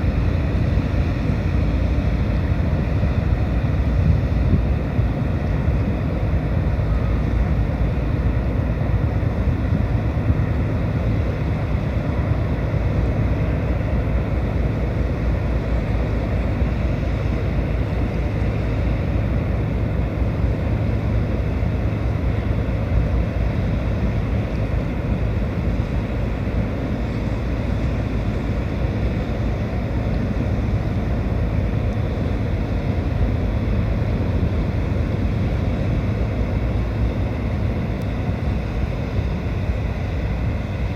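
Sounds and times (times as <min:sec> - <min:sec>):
ship engines rumbling: 0:00.0 - 0:40.9
wind buffeting microphone: 0:00.0 - 0:40.9.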